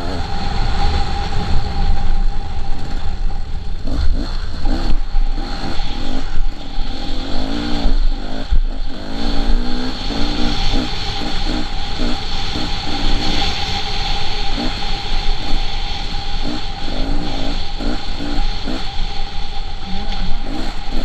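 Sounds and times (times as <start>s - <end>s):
dirt bike engine revving: 0.0s - 1.2s, 3.8s - 19.0s, 19.8s - 21.0s.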